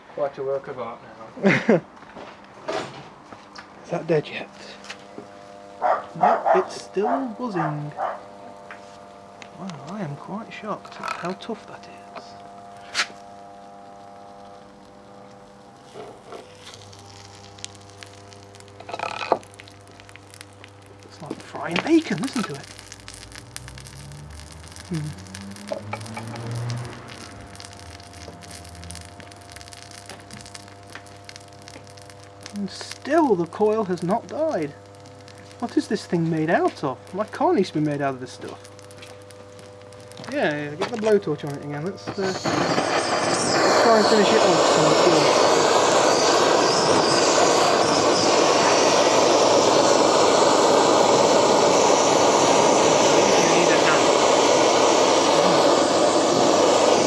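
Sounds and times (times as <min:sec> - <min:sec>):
motor crackling and sizzling: 0:00.0 - 0:57.0
steady electrical hum: 0:00.0 - 0:57.0
blowtorch flame hissing: 0:03.8 - 0:57.0.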